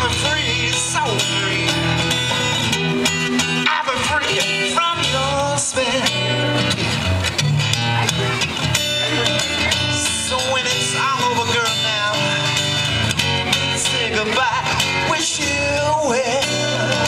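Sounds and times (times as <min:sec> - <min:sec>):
blues song with guitar: 0:00.0 - 0:17.0.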